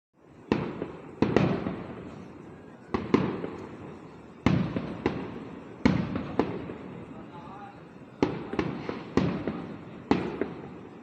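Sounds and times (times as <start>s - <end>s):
fireworks crackle and rumble: 0.2s - 11.0s
fireworks bangs: 0.3s - 11.0s.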